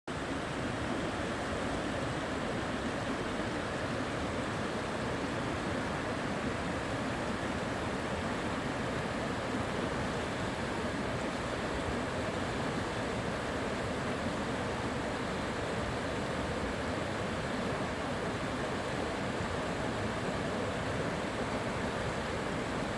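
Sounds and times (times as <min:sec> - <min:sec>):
river rushing: 0:00.1 - 0:22.9.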